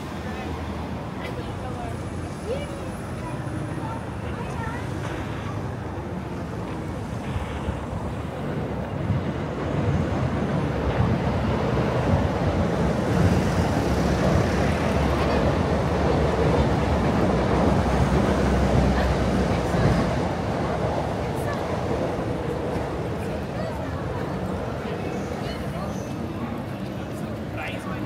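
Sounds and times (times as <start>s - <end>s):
crowd of many voices: 0.0s - 28.0s.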